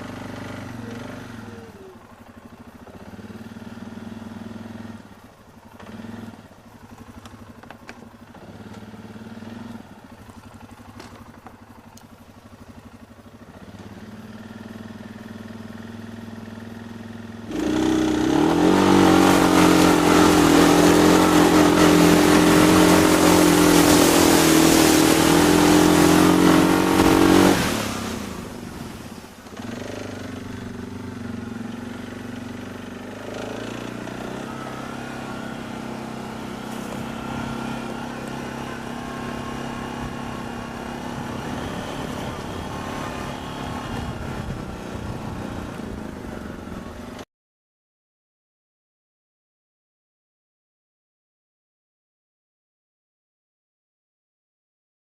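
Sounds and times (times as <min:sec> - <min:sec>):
engine at full throttle: 0:00.0 - 0:47.2
off-road vehicle engine: 0:00.0 - 0:47.3.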